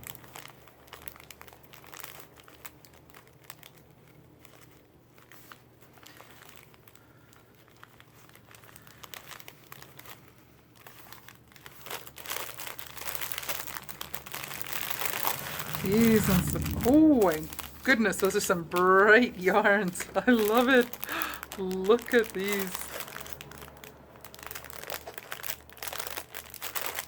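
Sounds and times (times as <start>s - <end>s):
packaging crinkling and rustling: 0.0s - 27.0s.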